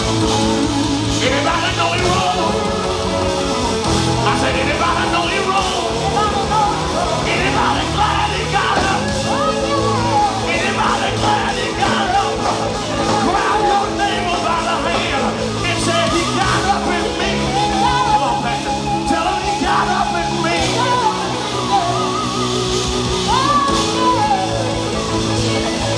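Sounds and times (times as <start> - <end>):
band playing: 0.0 - 25.9
steady bass notes: 0.0 - 25.9
sustained singing voices: 0.0 - 25.9.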